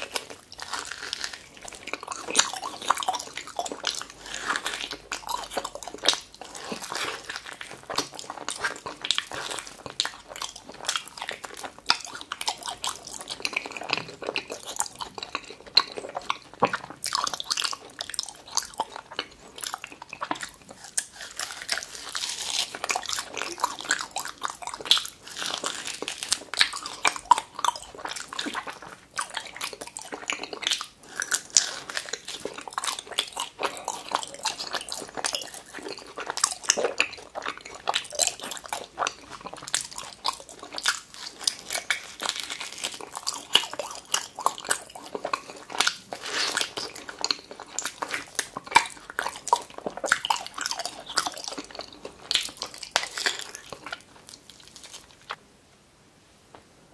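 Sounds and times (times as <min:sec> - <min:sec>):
person chewing: 0:00.0 - 0:55.4.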